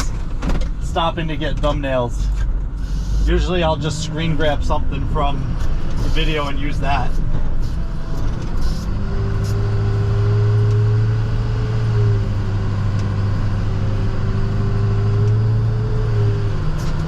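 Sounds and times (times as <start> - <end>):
faint engine whine: 0.0 - 17.0
truck engine hum: 0.0 - 17.0.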